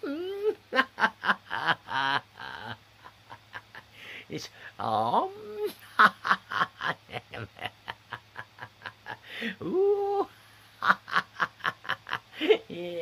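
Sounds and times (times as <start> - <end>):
man laughing heartily: 0.3 - 4.2, 5.5 - 13.0.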